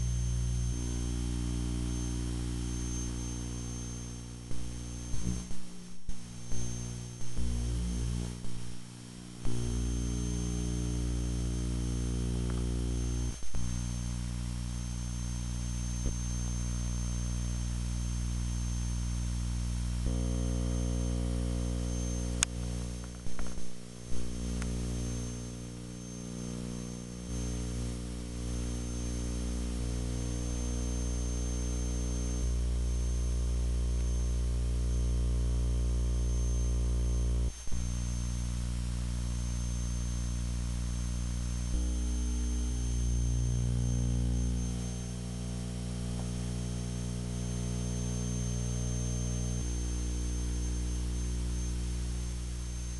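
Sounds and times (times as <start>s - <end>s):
electrical hum and buzz: 0.0s - 52.9s.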